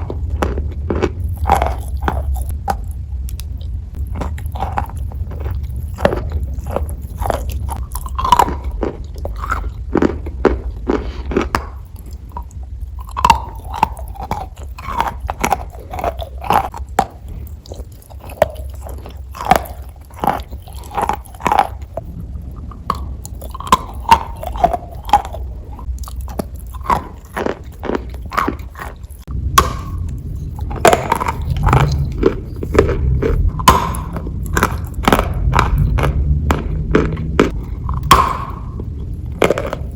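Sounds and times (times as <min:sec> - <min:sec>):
chalk being chewed: 0:00.0 - 0:22.1, 0:22.8 - 0:39.9.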